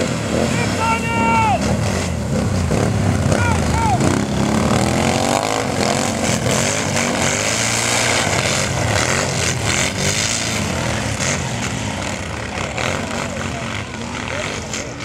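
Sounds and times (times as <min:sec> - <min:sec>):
racing atv engines revving: 0:00.0 - 0:15.0.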